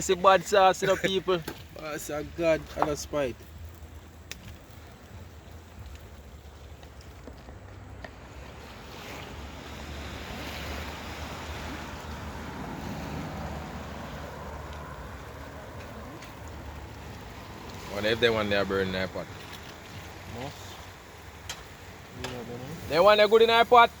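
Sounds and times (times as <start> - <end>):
sea waves washing ashore: 0.0 - 24.0
wind rumbling on microphone: 1.6 - 23.0.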